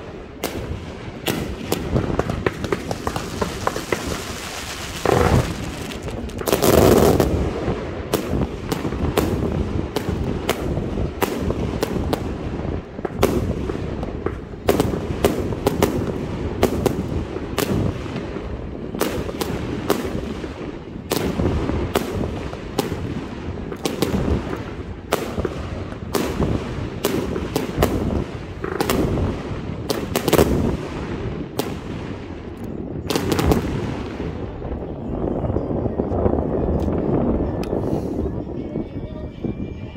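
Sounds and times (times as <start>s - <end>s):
fireworks crackle and rumble: 0.0s - 38.5s.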